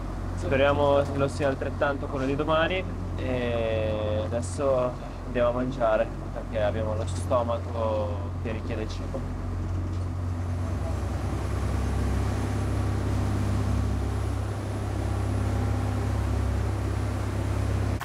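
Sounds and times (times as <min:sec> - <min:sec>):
boat engines droning: 0:00.0 - 0:18.0.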